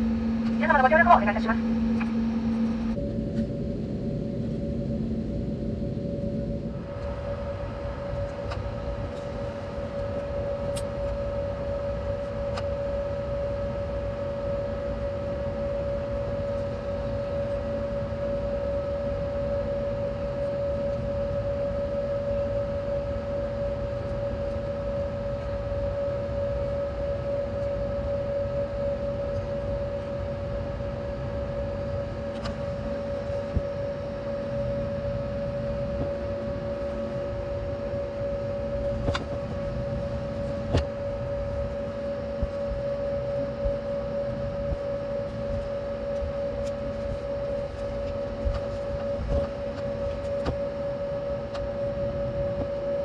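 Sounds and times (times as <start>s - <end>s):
airliner cabin rumble: 0.0s - 53.0s
jet engines droning: 0.0s - 53.0s.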